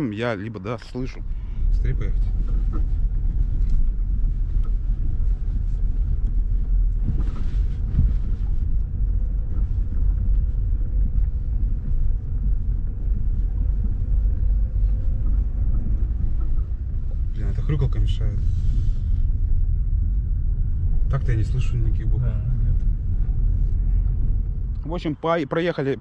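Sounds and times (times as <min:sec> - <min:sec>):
tyres rumbling on rough road: 0:00.0 - 0:26.0.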